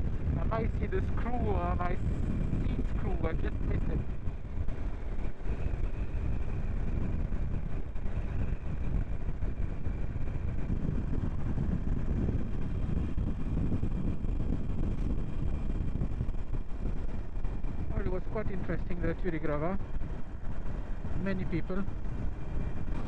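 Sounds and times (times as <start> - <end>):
motorcycle engine cruising: 0.0 - 23.0
wind rushing over microphone: 0.0 - 23.0.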